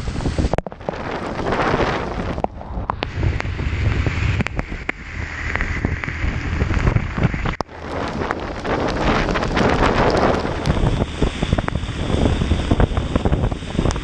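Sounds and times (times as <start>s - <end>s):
heavy rain ticks: 0.0s - 14.0s
low rumble: 0.0s - 14.0s
wind rushing over microphone: 0.0s - 14.0s.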